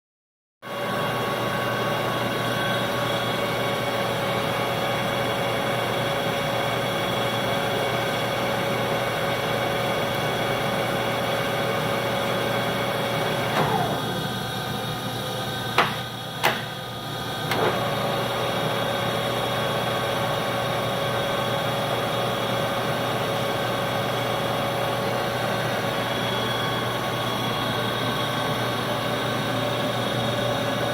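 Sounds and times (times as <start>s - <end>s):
lathe whining: 0.7s - 30.9s.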